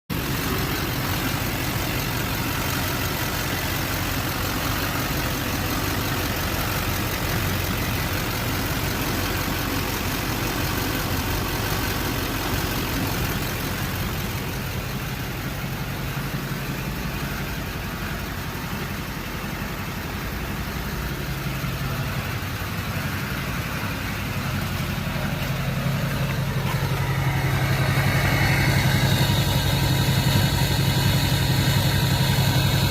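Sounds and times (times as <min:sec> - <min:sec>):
engine idling: 0:00.1 - 0:32.9.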